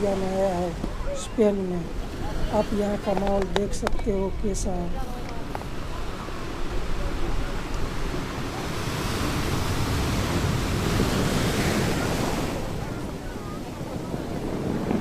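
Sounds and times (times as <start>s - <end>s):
sea waves washing onto beach: 0.0s - 15.0s
wind rumble on microphone: 0.0s - 15.0s.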